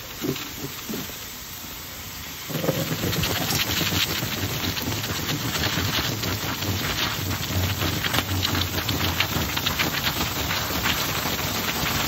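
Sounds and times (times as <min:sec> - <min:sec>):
water sizzling on hot metal: 0:00.0 - 0:12.0.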